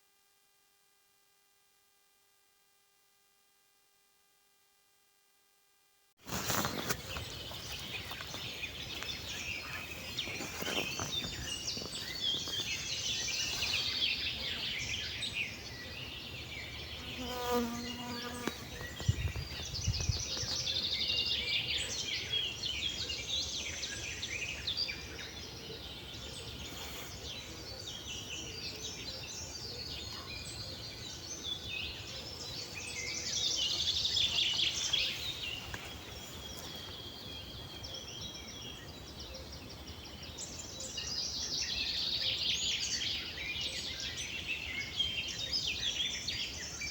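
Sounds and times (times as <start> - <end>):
songbirds chirping and trilling: 6.3 - 46.9.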